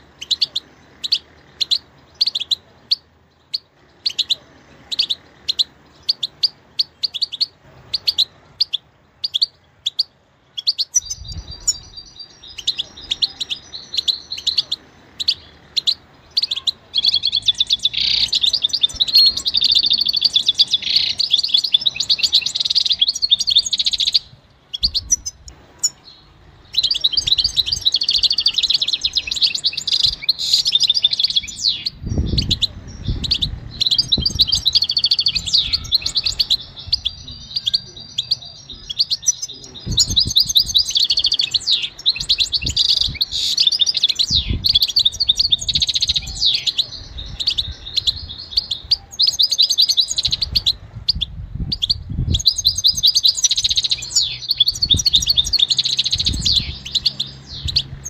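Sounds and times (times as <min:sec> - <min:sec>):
goldfinch singing: 0:00.0 - 0:58.0.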